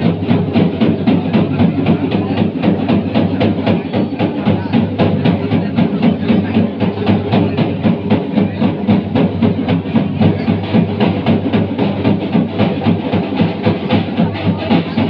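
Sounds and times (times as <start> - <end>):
fast drumming: 0.0 - 15.0
pitched music: 0.0 - 15.0.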